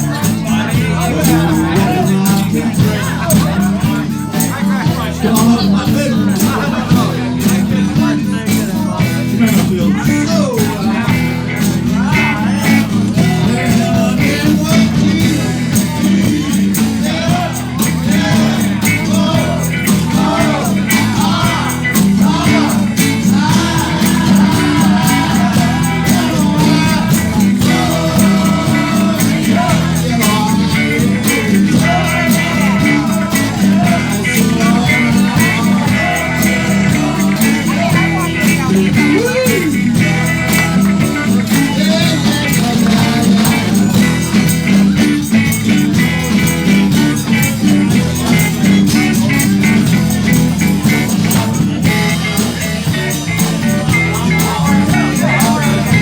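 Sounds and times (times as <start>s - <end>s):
bass line: 0.0s - 56.0s
live band playing: 0.0s - 56.0s.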